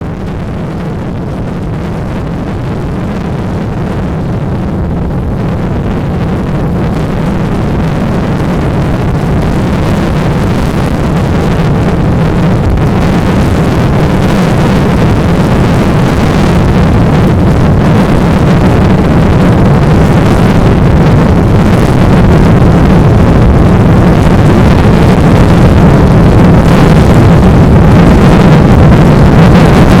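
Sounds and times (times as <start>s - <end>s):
strong wind rumbling on microphone: 0.0s - 30.0s.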